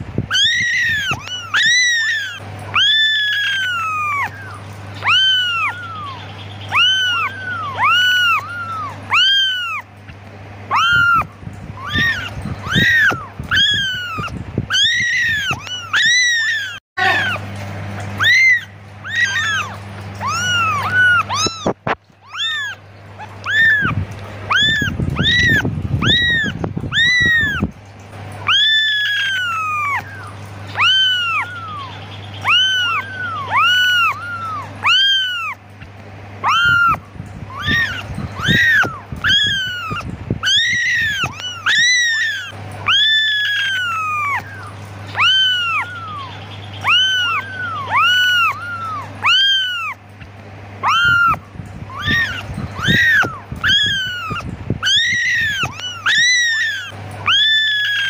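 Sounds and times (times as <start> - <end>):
kittens mewing: 0.0 - 58.0.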